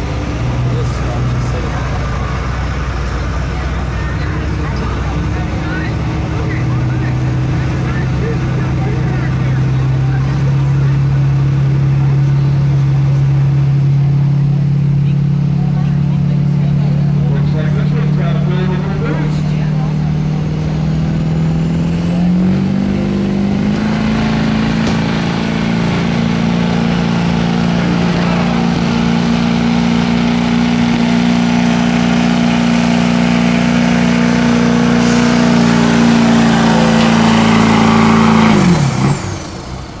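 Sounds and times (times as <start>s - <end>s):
diesel engine at high revs: 0.0s - 40.0s.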